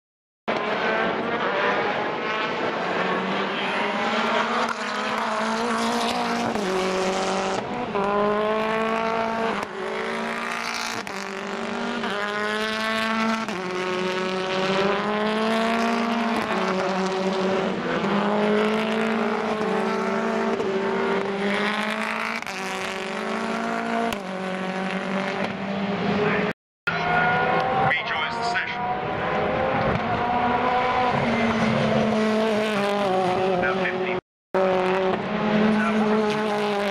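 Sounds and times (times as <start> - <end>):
race car engines at full throttle: 0.5 - 36.9.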